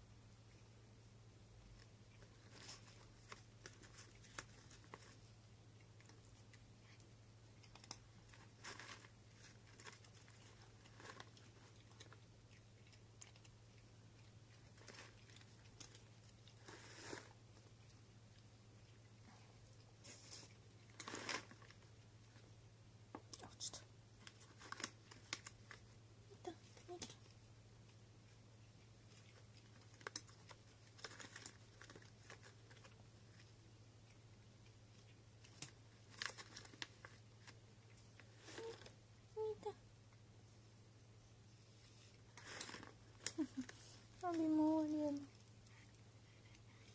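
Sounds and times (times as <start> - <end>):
low steady hum: 0.0 - 46.9
cat crunching dry treats: 1.8 - 22.5, 23.4 - 39.0, 42.1 - 44.2.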